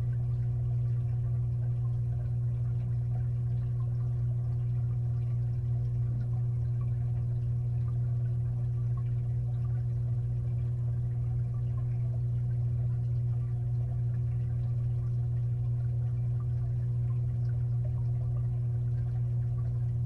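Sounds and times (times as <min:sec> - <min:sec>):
aquarium filter humming: 0:00.0 - 0:20.0.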